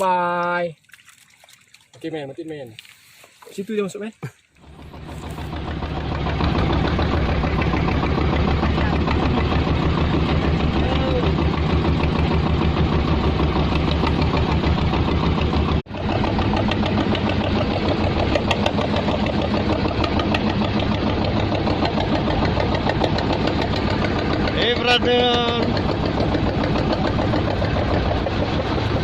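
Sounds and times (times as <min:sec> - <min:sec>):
boat engine running at low revs: 0:04.6 - 0:29.0.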